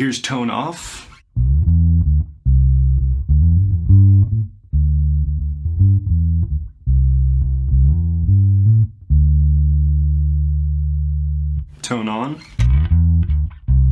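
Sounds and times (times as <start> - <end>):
electric bass line: 1.1 - 13.9.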